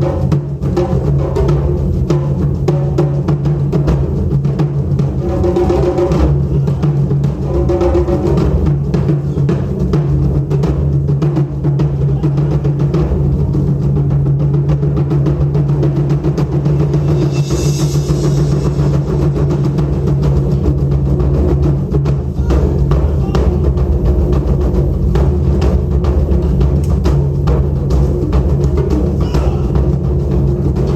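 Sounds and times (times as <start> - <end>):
drums playing fast rhythm: 0.0 - 30.9.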